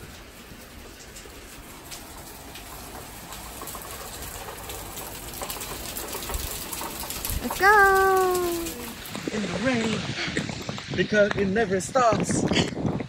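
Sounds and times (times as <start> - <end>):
rain on wooden deck and plants: 0.0 - 13.0.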